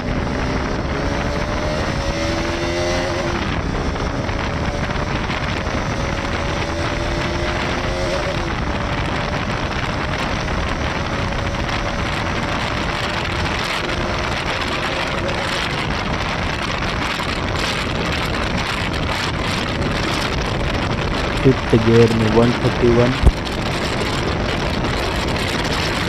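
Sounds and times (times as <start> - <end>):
faint motorcycle engine: 0.0 - 26.0
heavy wind rush on microphone: 0.0 - 26.0.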